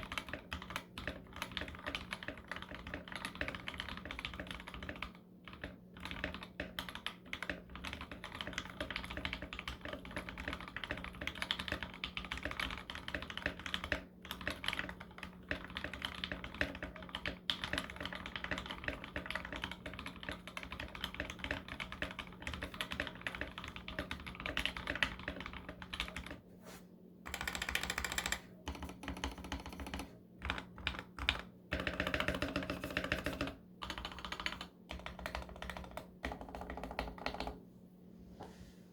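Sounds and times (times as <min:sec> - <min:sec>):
fast typing on mechanical keyboard: 0:00.0 - 0:26.4, 0:27.3 - 0:37.6.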